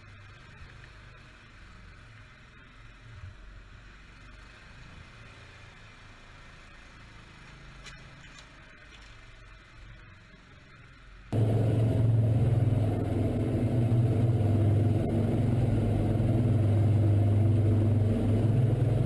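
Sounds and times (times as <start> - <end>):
quad bike engine idling: 0.0 - 19.0.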